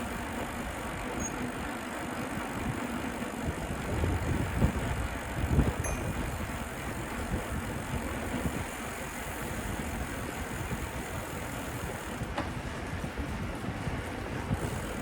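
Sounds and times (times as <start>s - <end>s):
road noise: 0.0s - 15.0s
wind: 0.0s - 15.0s.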